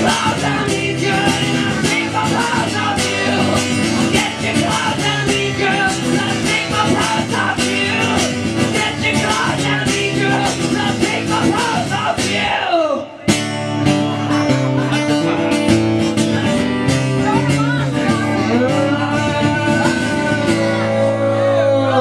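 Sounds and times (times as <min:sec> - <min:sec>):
man singing: 0:00.0 - 0:13.4, 0:17.5 - 0:22.0
acoustic guitar strumming: 0:00.0 - 0:22.0.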